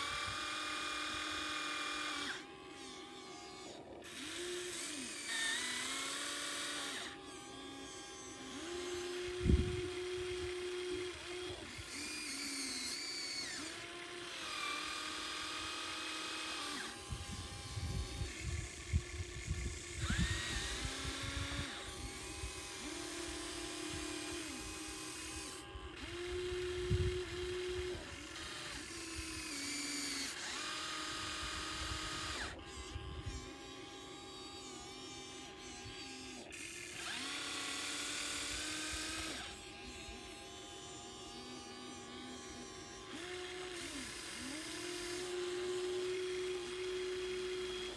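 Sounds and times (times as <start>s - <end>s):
small electric motors whining: 0.0s - 47.9s.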